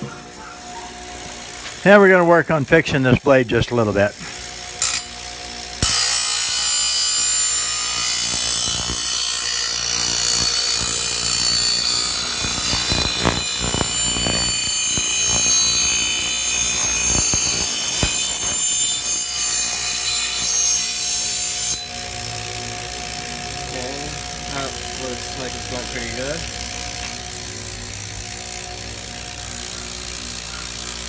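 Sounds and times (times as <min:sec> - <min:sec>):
grinder motor whine: 0:00.0 - 0:31.0
grinder wheel grinding steel: 0:00.0 - 0:31.0.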